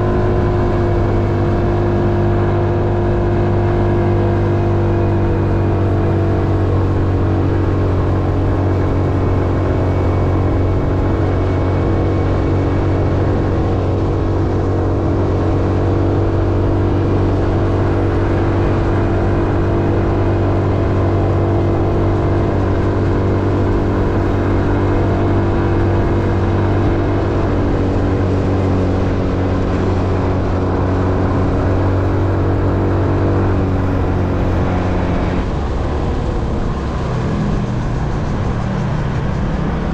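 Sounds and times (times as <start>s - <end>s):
road noise: 0.0s - 39.9s
vehicle engine humming: 0.0s - 39.9s.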